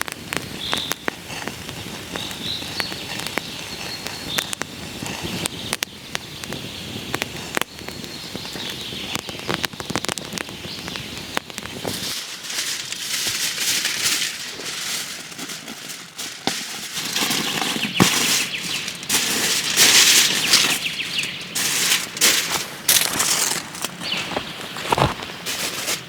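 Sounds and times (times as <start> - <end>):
fire hissing: 0.0 - 26.0
wood fire crackling and popping: 0.0 - 26.0.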